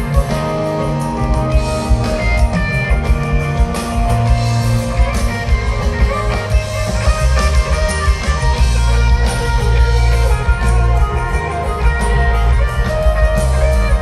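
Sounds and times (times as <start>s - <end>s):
bass guitar: 0.0s - 14.0s
drum kit beat: 0.0s - 14.0s
electric guitars: 0.0s - 14.0s.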